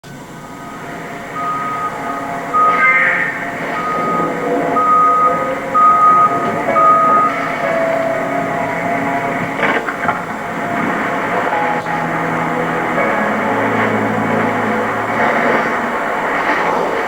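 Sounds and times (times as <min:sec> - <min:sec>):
backup alarm beeping: 0:00.1 - 0:16.4.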